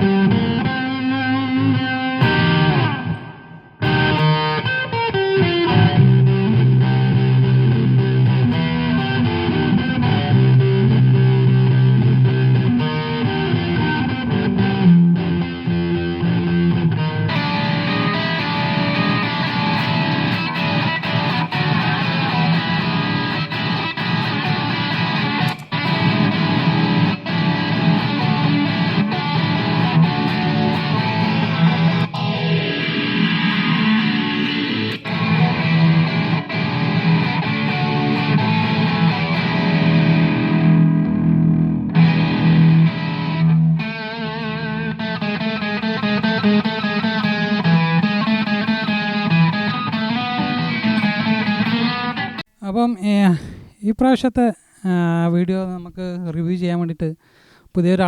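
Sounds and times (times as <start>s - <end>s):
distorted electric guitar: 0.0s - 52.5s.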